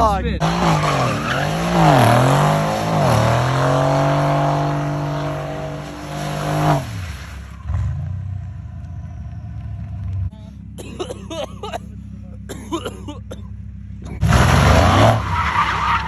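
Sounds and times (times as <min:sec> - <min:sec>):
car engine revving: 0:00.0 - 0:16.0
tyres skidding: 0:00.0 - 0:16.0.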